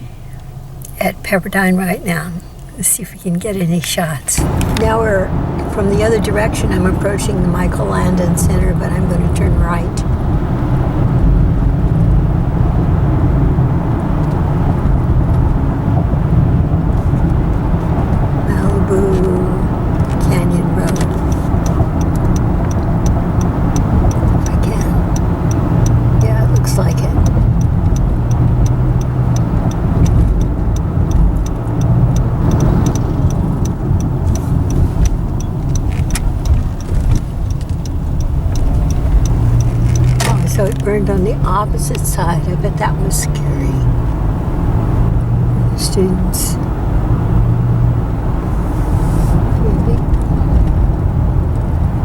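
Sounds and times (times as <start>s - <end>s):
light regular ticking: 0.0s - 46.0s
car interior road rumble: 0.0s - 52.0s.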